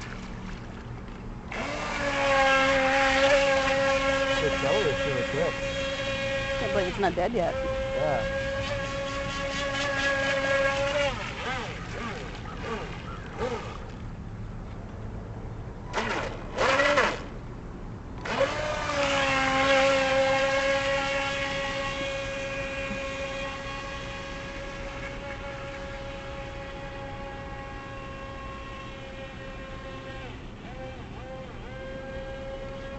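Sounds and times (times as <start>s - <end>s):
electric motor whining: 1.5s - 13.9s, 15.9s - 17.3s, 18.2s - 32.9s.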